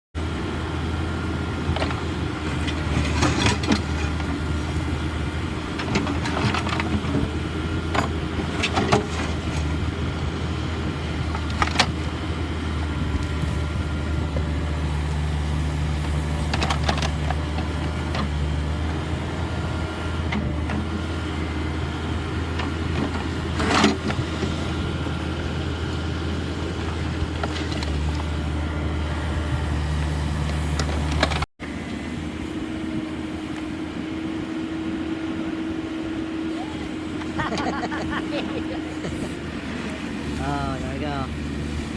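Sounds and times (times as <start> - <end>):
excavator diesel engine running: 0.2 - 41.9.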